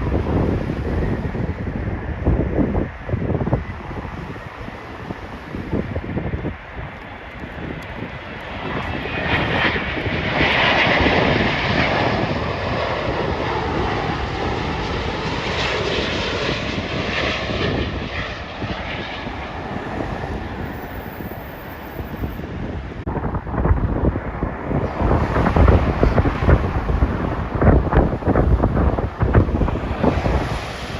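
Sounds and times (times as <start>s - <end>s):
jet airliner passing: 0.0s - 30.9s
wind buffeting microphone: 0.0s - 30.9s.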